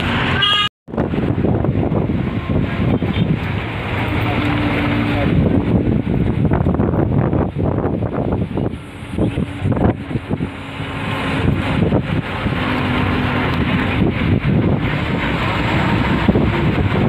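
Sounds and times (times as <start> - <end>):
bus engine and tyre noise: 0.0 - 17.0
wind rushing over microphone: 0.0 - 17.0.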